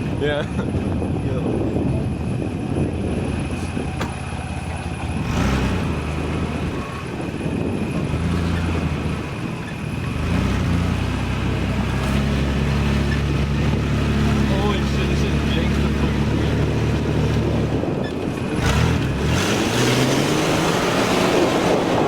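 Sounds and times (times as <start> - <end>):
car engine driving slowly: 0.0 - 22.0.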